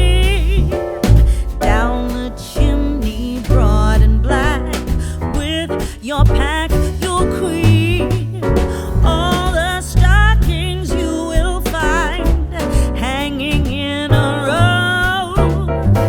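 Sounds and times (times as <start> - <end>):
song with vocals bass and beat: 0.0 - 13.3.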